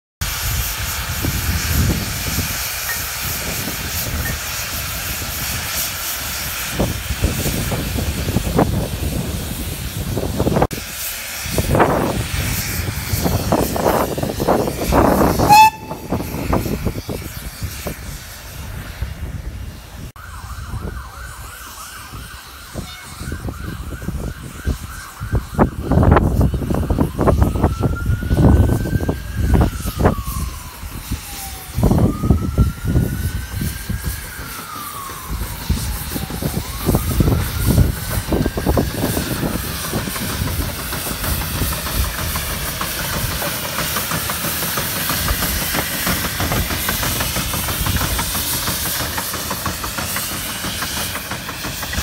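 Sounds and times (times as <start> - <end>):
steam locomotive hissing and chuffing: 0.2 - 52.0.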